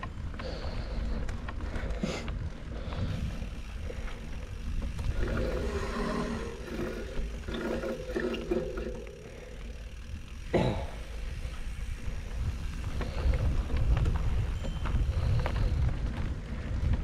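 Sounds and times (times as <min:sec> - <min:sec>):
bike rattling: 0:00.0 - 0:17.0
bike tyres on dirt: 0:00.0 - 0:17.0
wind rumble on microphone: 0:00.0 - 0:17.0.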